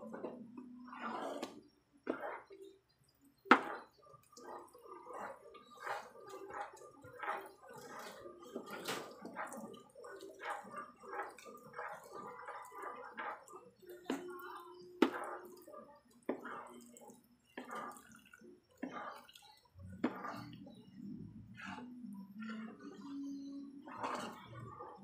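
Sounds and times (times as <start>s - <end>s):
thick mixture squelching when stirred: 0.0s - 25.0s.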